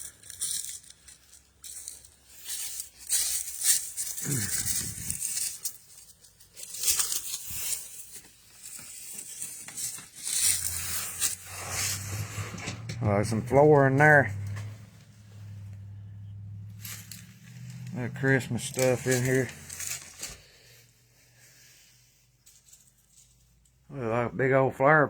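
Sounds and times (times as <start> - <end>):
rustling and crackling: 0.0 - 20.9, 22.4 - 23.8.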